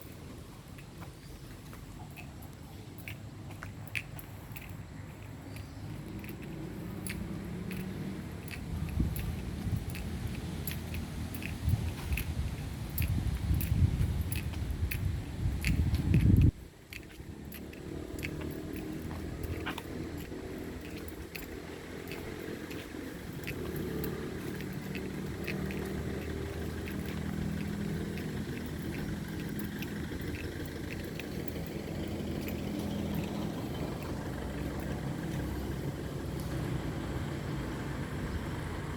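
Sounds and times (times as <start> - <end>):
faint ticks: 0.0 - 36.7
low engine rumble: 0.0 - 38.9.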